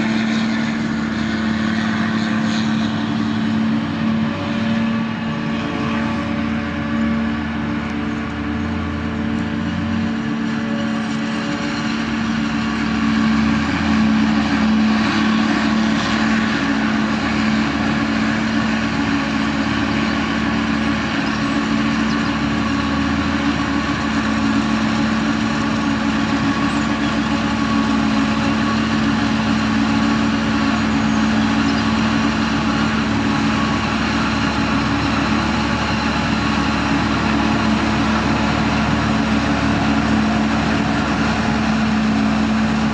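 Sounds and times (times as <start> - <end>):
heavy machinery drone: 0.0 - 42.9.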